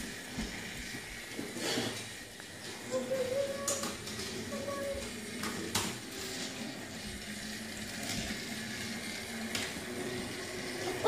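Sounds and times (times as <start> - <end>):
toy train motor hum: 0.0 - 11.0.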